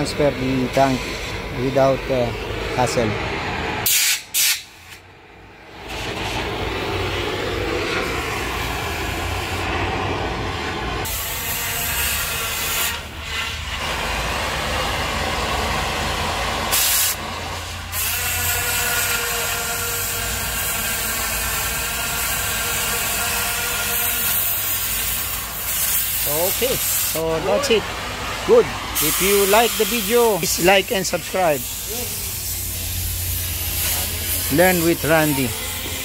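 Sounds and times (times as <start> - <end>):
cutting torch hissing: 0.0 - 36.0.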